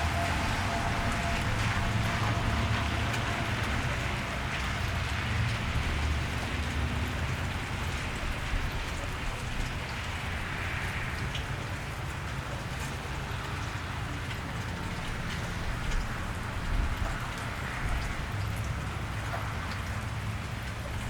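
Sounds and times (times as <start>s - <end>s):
drips ticking: 0.0s - 21.0s
low rumble of light traffic: 0.0s - 21.0s
rain falling on wet street: 0.0s - 21.0s.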